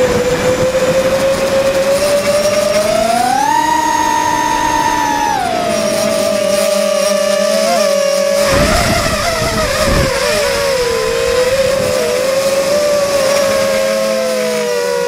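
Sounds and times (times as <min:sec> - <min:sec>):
wind noise: 0:00.0 - 0:06.7, 0:07.4 - 0:14.3
drone motors whining: 0:00.0 - 0:15.0.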